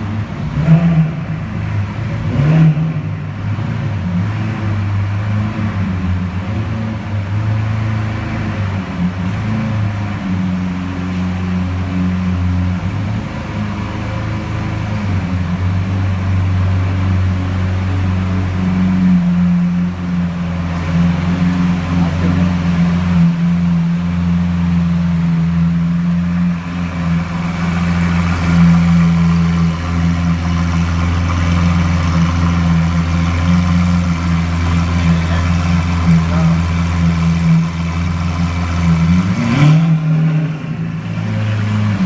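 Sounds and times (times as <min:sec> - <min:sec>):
car engine idling: 0:00.0 - 0:42.0
engine revving: 0:00.0 - 0:42.0.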